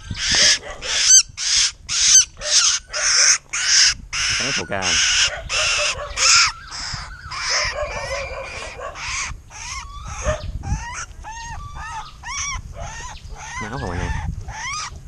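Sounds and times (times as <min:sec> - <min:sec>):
bird distress screeches: 0:00.0 - 0:15.0.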